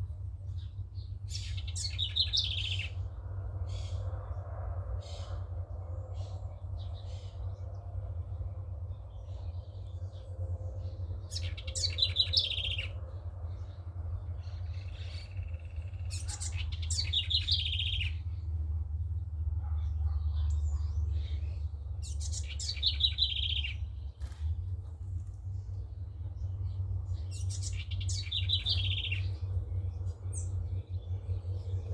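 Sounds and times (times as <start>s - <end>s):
low steady rumble: 0.0s - 31.9s
songbird singing: 0.0s - 31.9s.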